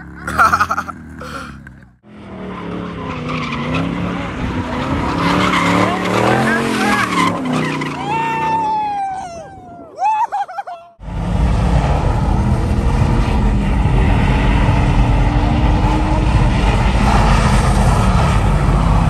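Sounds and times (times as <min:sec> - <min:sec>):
car engine at high revs: 0:00.0 - 0:08.1, 0:11.0 - 0:19.0.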